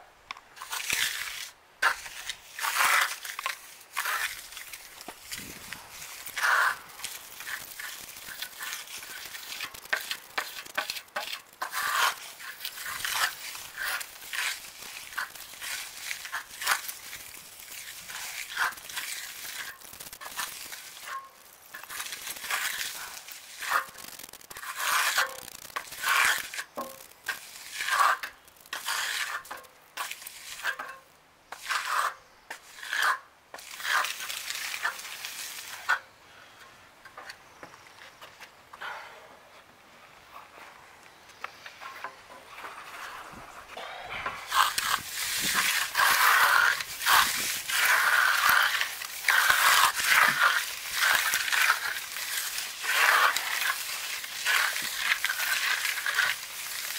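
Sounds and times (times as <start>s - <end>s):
trowel scraping wet concrete: 0.6s - 36.2s, 41.6s - 56.9s.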